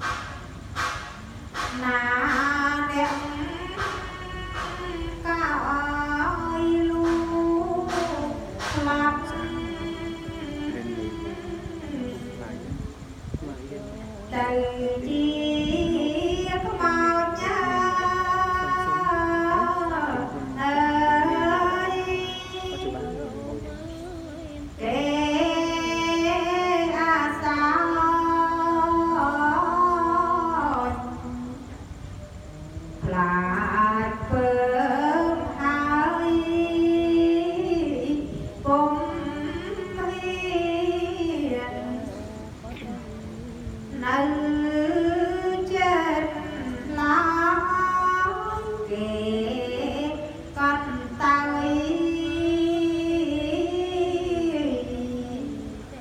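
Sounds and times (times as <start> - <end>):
person chanting verse: 0.0 - 56.0.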